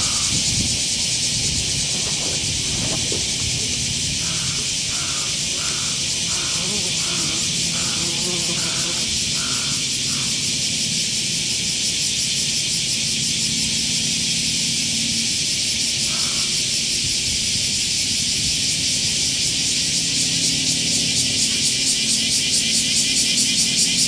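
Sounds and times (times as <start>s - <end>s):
shrill insect chorus: 0.0s - 24.0s.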